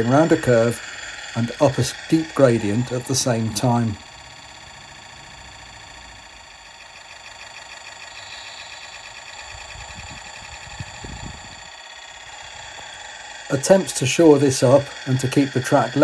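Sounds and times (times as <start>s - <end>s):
model locomotive whirring and ticking: 0.0s - 16.0s.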